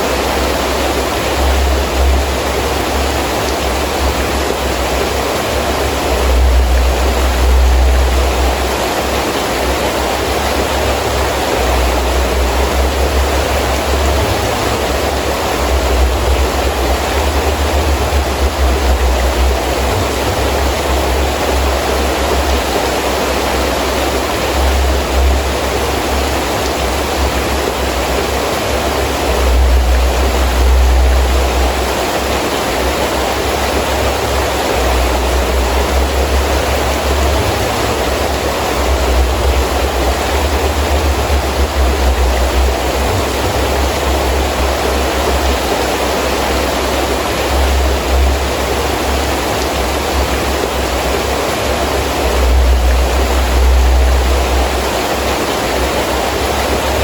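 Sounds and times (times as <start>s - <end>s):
heavy rain falling: 0.0s - 57.0s
wind gusts rumbling: 0.0s - 57.0s.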